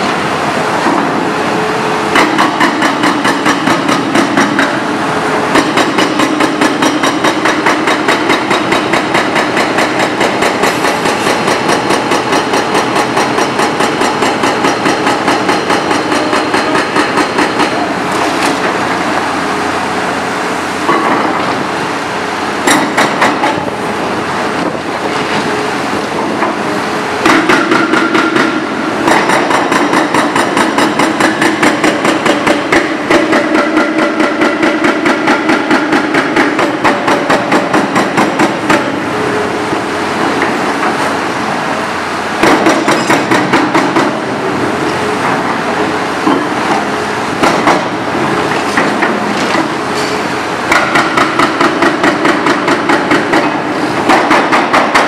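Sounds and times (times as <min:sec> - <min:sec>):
hydraulic hammer pounding rubble: 0:00.0 - 0:19.5, 0:20.8 - 0:21.8, 0:22.6 - 0:39.4, 0:42.4 - 0:55.0
excavator engine running: 0:00.0 - 0:55.0.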